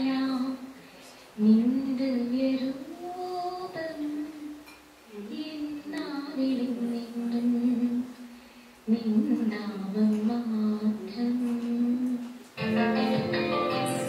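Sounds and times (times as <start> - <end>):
woman singing unaccompanied: 0.0 - 0.7, 1.4 - 14.0.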